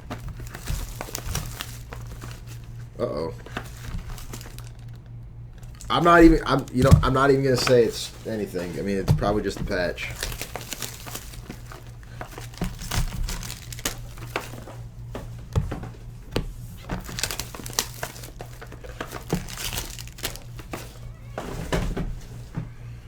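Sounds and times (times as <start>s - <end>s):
plastic wrapping crinkling: 0.0s - 21.6s
low steady hum: 0.0s - 23.0s.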